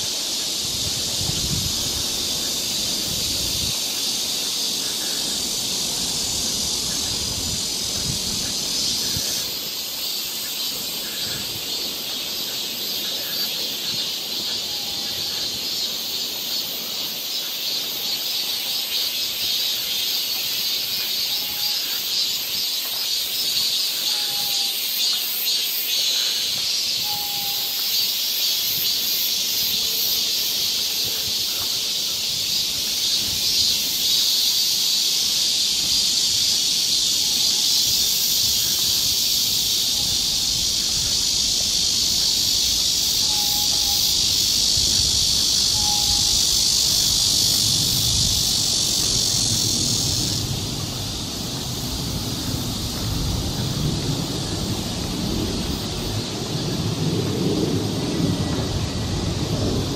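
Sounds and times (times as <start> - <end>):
cicadas shrilling: 0.0 - 59.9.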